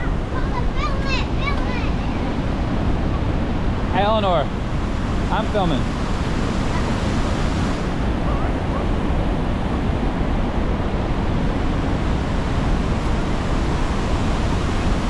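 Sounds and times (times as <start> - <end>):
churning river: 0.0 - 15.0
waterfall roaring: 0.0 - 15.0.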